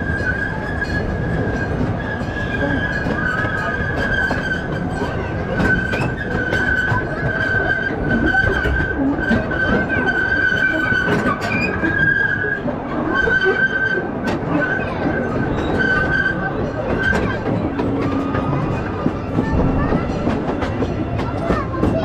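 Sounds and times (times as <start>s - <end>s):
amusement train rumble: 0.0s - 22.0s.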